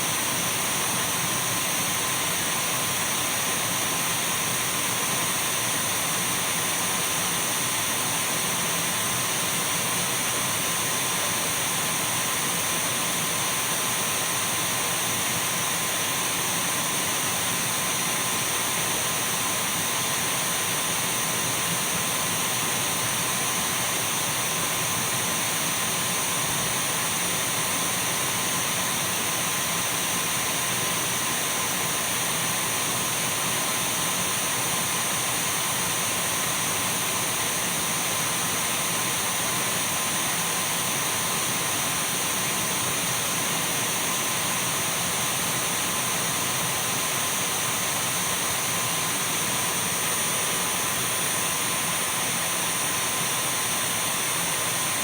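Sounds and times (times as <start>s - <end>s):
cordless vacuum cleaner whirring: 0.0s - 55.0s.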